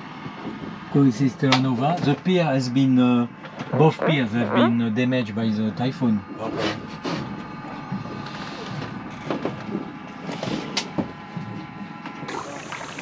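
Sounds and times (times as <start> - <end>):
radial aircraft engine idling: 0.0 - 13.0.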